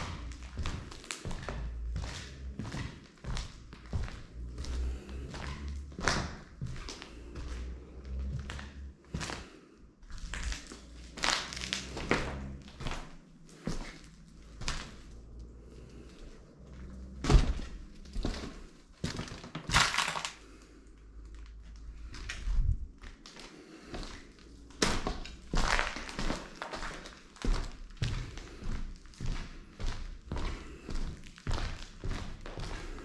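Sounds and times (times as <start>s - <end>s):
footsteps crunching over debris: 0.0s - 33.0s.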